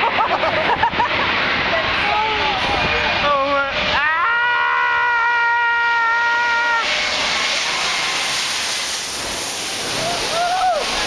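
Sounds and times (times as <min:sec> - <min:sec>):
jet engines whining: 0:00.0 - 0:11.0
loud rushing hiss: 0:00.0 - 0:11.0.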